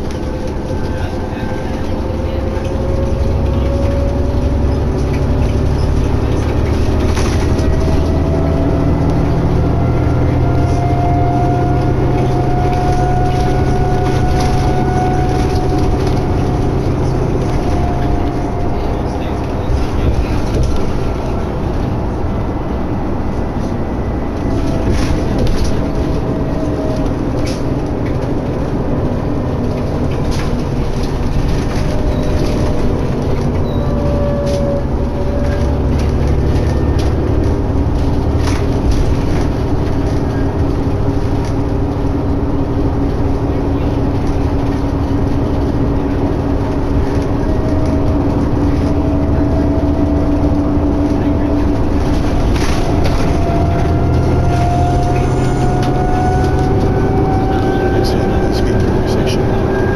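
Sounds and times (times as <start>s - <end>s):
bus engine and road noise: 0.0s - 59.9s
drivetrain whine: 0.0s - 59.9s.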